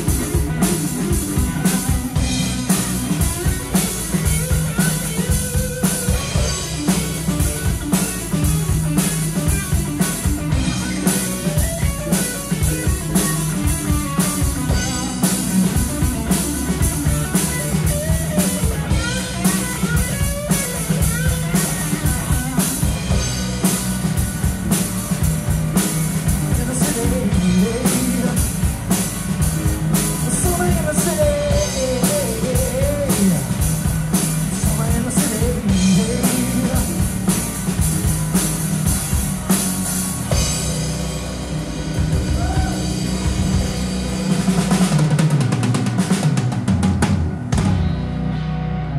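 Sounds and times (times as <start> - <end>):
drum kit beat: 0.0 - 48.0
bass guitar: 0.0 - 48.9
electric guitar lead: 0.0 - 48.9.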